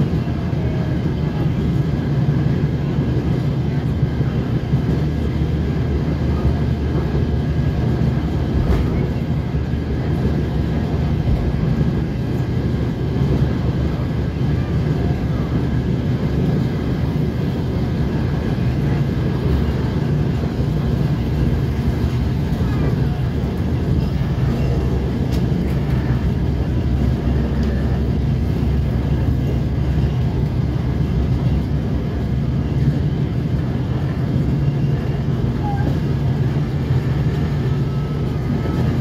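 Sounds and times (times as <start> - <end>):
diesel engine drone: 0.0 - 39.0
train wheels rumbling on track: 0.0 - 39.0.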